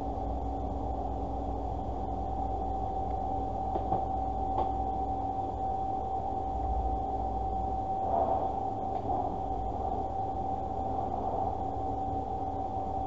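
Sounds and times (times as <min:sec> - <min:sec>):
background hum and hiss: 0:00.0 - 0:13.0
mid-pitched whine: 0:00.0 - 0:13.0.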